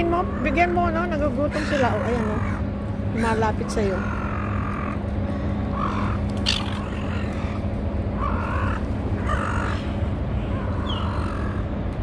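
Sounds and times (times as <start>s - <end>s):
gulls calling: 0.0s - 12.0s
steady low rumble: 0.0s - 12.0s.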